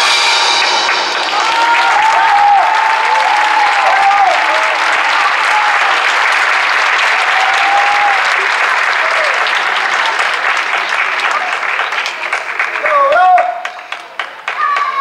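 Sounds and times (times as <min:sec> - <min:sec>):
voices cheering: 0:00.0 - 0:13.7, 0:14.5 - 0:15.0
audience applauding: 0:00.0 - 0:15.0.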